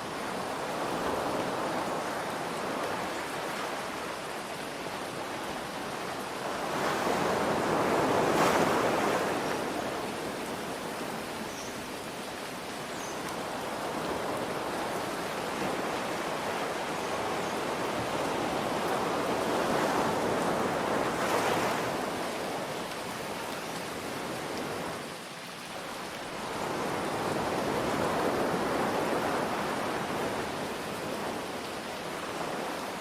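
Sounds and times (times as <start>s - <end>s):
ocean waves breaking: 0.0s - 11.4s, 13.4s - 25.2s, 26.3s - 33.0s
steady rain: 0.0s - 33.0s.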